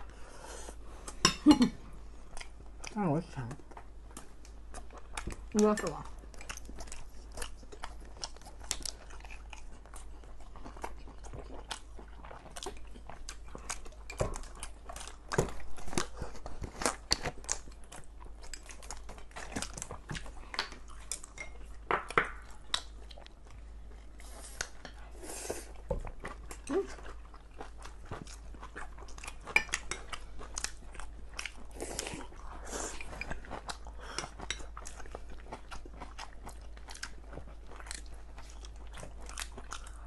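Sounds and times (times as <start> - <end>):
food crunching: 1.1 - 25.0, 25.6 - 40.0.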